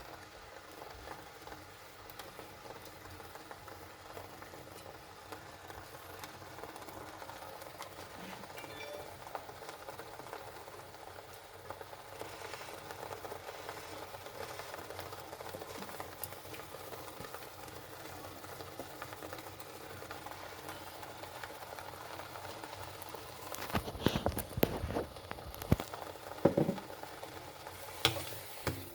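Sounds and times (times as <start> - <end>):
spice paste sizzling in oil: 0.0 - 28.9.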